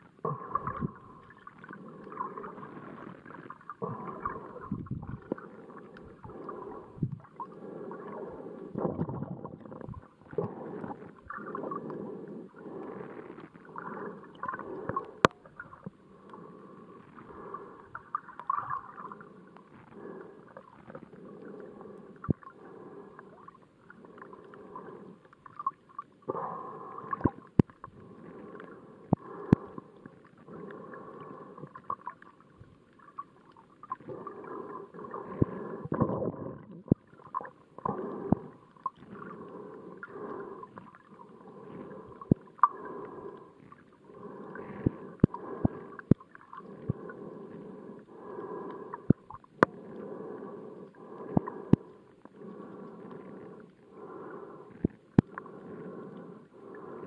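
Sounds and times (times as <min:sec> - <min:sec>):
muffled underwater water noise: 0:00.0 - 0:57.0.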